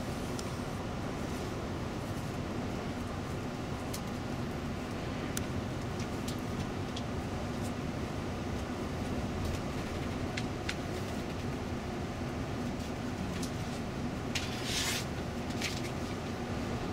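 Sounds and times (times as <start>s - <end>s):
coach engine and tyre noise: 0.0s - 16.9s.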